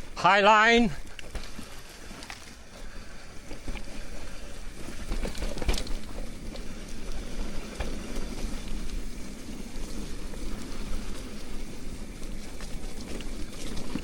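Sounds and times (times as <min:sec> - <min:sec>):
bike rattling: 0:00.0 - 0:14.0
tyres rolling over dirt: 0:00.0 - 0:14.0
bike knocking on bumps: 0:01.0 - 0:14.0.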